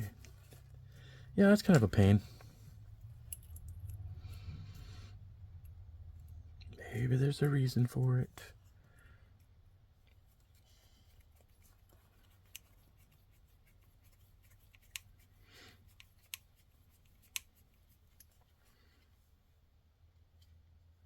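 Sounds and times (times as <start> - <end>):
soft rustle: 0.0 - 5.4, 7.0 - 20.7.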